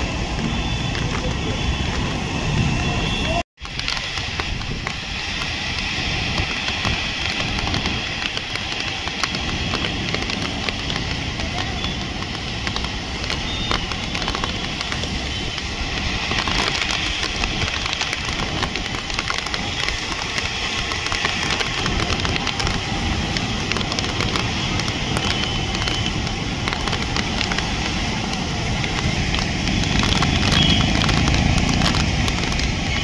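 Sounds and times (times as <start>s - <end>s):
rain falling: 0.0s - 33.0s
traffic on wet road: 0.0s - 33.0s.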